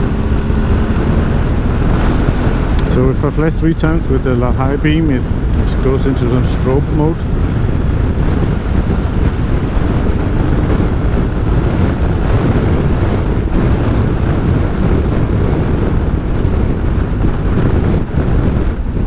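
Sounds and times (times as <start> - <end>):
road and engine rumble: 0.0 - 19.0
wind rushing over microphone: 0.0 - 19.0.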